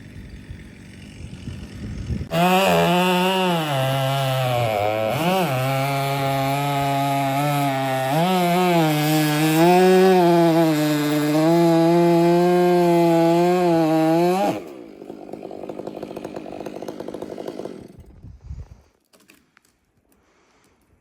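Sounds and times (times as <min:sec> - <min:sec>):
chainsaw running and cutting: 0:00.0 - 0:18.2.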